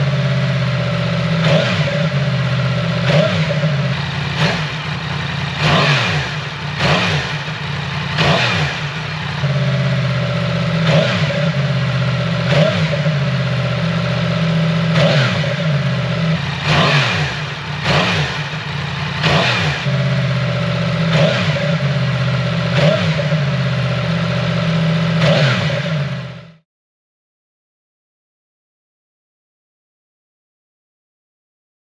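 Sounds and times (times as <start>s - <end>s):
motorcycle engine idling: 0.0s - 26.6s
motorcycle throttle blips: 0.0s - 26.6s.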